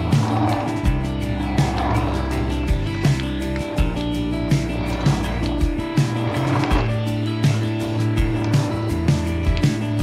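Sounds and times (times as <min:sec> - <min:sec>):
background music with synth tones: 0:00.0 - 0:10.0.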